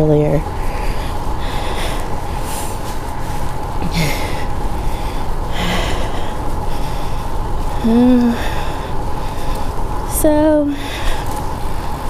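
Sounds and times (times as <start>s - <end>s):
wind and road noise: 0.0s - 12.0s
cyclist breathing hard: 0.5s - 10.1s, 10.7s - 12.0s.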